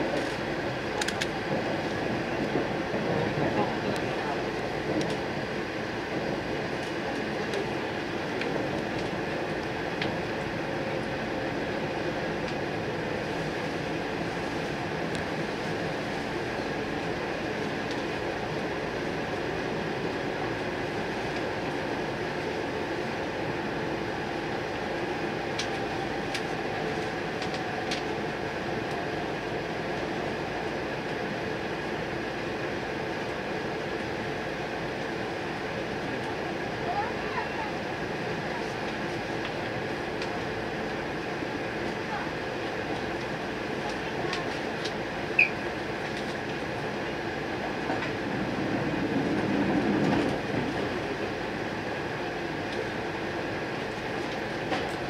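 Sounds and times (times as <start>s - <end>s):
train motor car hum: 0.0s - 55.0s.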